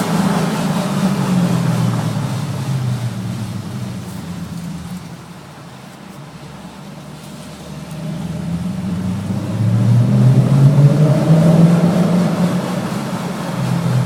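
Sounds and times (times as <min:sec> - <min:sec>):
car engine echoing in garage: 0:00.0 - 0:14.0.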